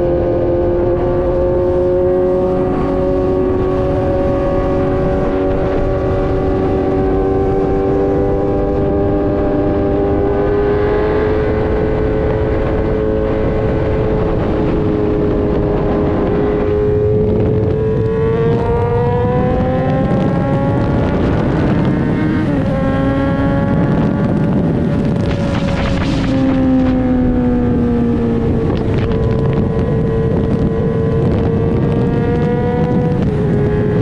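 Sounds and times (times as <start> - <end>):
motorcycle engine: 0.0 - 34.0
wind rush: 0.0 - 34.0.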